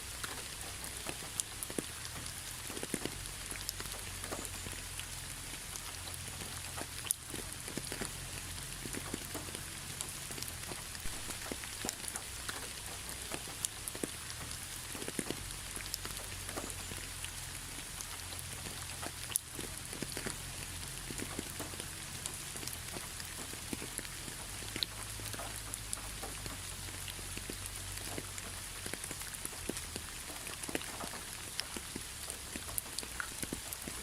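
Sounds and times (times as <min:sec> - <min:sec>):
raindrops tapping: 0:00.0 - 0:34.0
steady rain falling: 0:00.0 - 0:34.0.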